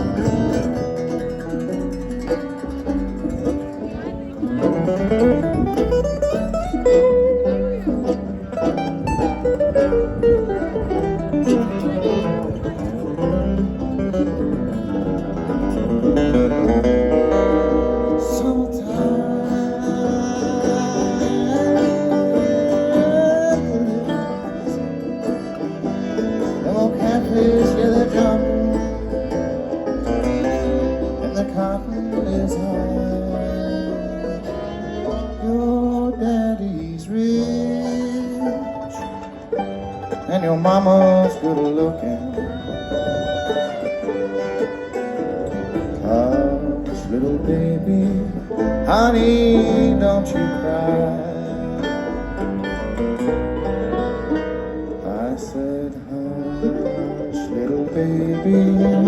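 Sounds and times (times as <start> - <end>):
acoustic guitar picking: 0.0 - 59.0
banjo picking: 0.0 - 59.0
other string instruments: 0.0 - 59.0.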